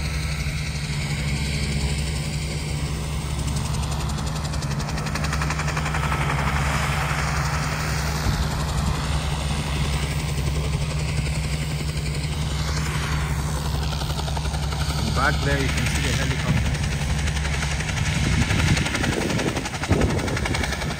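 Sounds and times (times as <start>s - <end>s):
helicopter engine and rotor: 0.0s - 20.9s.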